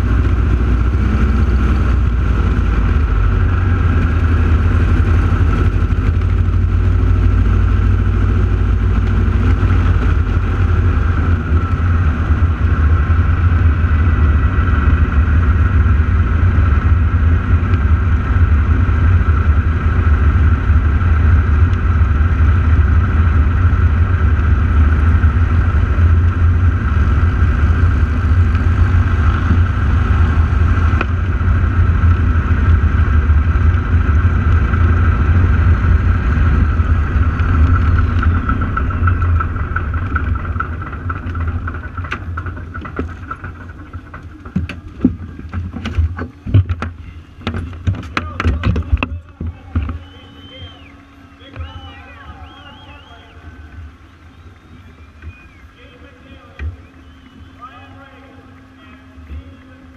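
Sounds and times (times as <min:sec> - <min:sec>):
aircraft engines droning: 0:00.0 - 0:59.9
high engine whine: 0:00.0 - 0:59.9.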